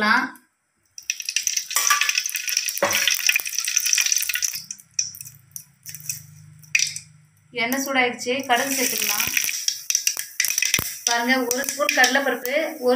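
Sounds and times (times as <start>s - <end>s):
oil sizzling and crackling: 0.9s - 12.9s.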